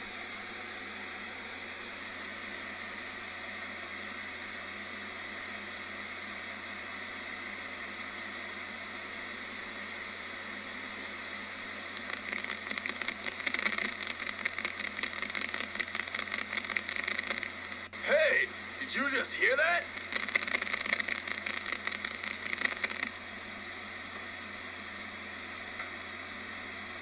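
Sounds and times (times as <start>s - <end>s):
rapid pulsing of exhaust leak: 0.0s - 18.8s, 19.9s - 27.0s
car exhaust hiss through amplifier: 0.0s - 27.0s.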